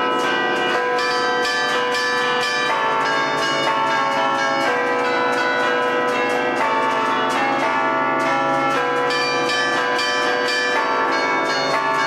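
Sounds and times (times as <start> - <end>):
church bells ringing a tune: 0.0 - 12.0.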